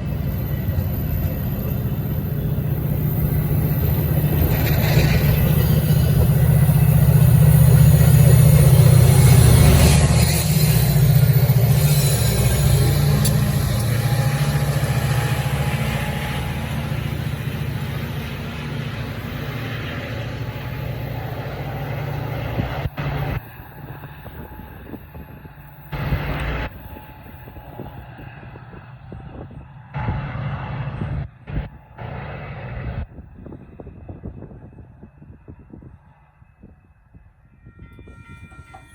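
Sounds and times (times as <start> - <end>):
diesel locomotive drone: 0.0 - 38.9.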